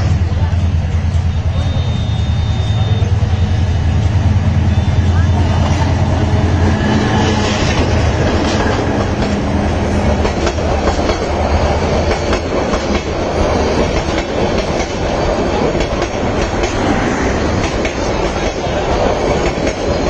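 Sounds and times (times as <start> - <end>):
train wheels clattering: 3.4 - 20.0.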